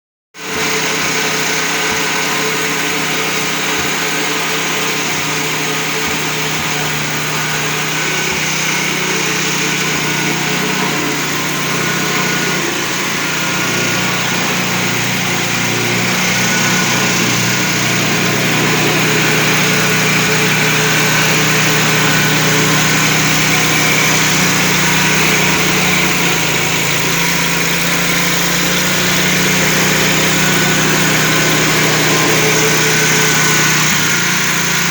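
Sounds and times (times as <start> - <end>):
pulping machine running: 0.4 - 34.9.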